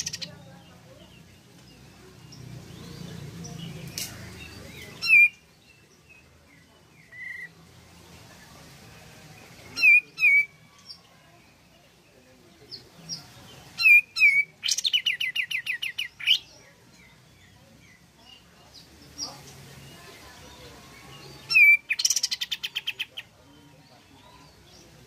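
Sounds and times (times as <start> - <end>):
bird singing: 0.0 - 25.0.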